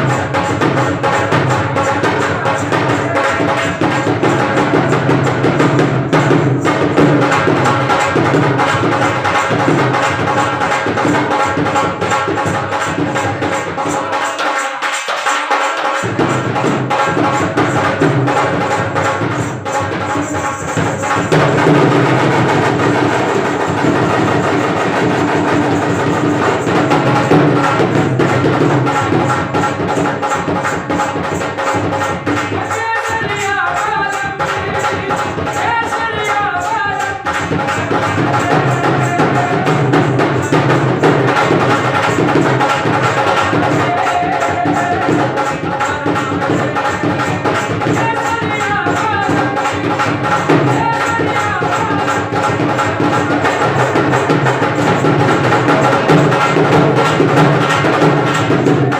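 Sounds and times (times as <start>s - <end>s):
dance music percussion: 0.0s - 58.9s.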